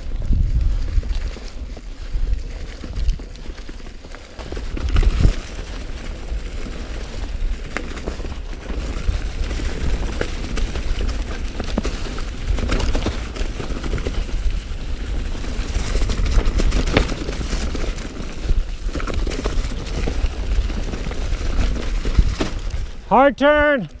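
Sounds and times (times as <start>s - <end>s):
bike rattling and clicking: 0.0s - 23.1s
tyres crunching over leaves and dirt: 0.0s - 23.1s
wind buffeting microphone: 0.0s - 23.1s.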